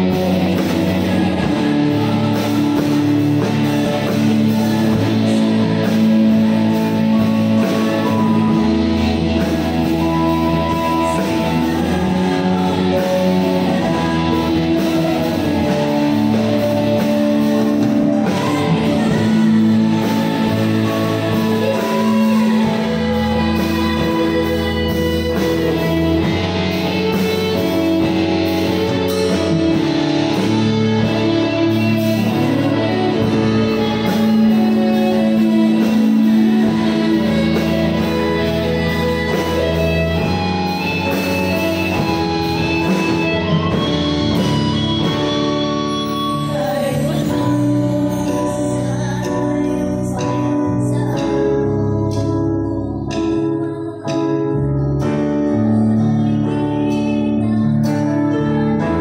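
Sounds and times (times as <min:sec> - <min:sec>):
drums: 0:00.0 - 0:59.0
electric guitars: 0:00.0 - 0:59.0
keyboard: 0:00.0 - 0:59.0.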